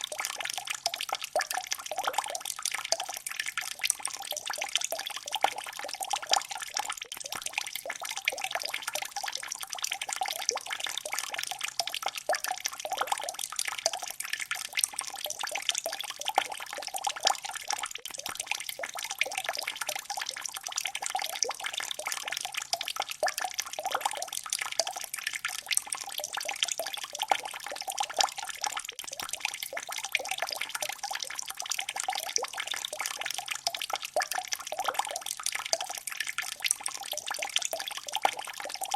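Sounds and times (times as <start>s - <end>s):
water drops dripping: 0.0s - 38.9s.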